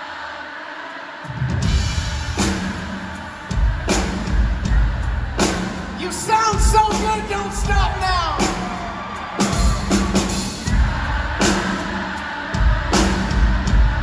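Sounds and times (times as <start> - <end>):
pop-rock band playing live: 1.4 - 14.0.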